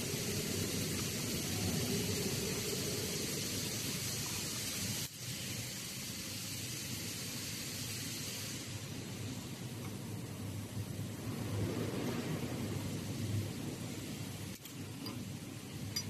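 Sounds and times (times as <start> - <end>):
workshop machinery hiss: 0.0 - 14.6.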